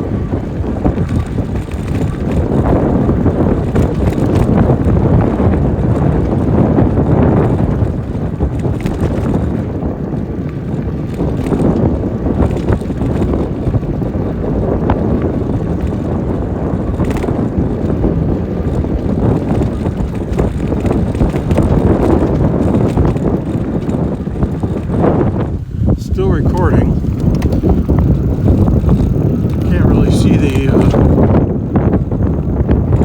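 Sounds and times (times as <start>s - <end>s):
tyre noise on rough road: 0.0s - 33.0s
wind rushing over microphone: 0.0s - 33.0s.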